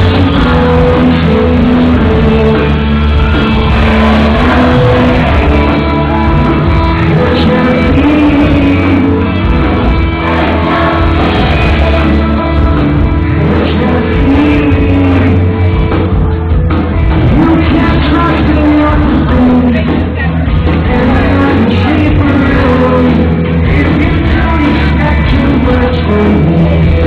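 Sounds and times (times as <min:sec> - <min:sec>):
live band playing loud music: 0:00.0 - 0:27.0
person singing: 0:00.0 - 0:27.0.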